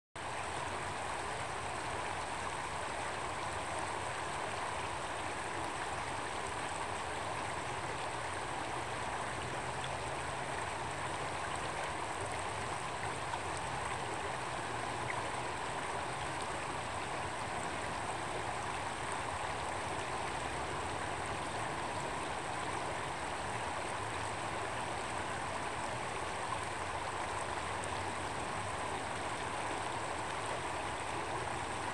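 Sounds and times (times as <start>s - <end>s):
stream running over stones: 0.2s - 31.9s.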